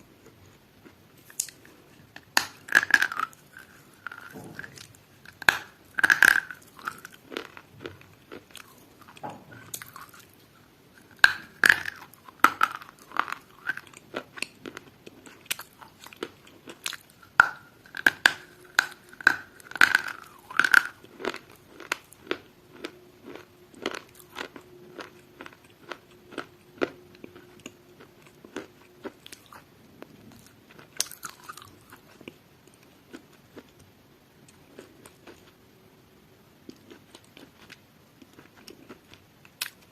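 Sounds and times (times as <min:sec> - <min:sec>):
chewing crunchy food: 0:00.0 - 0:35.6, 0:36.6 - 0:39.9.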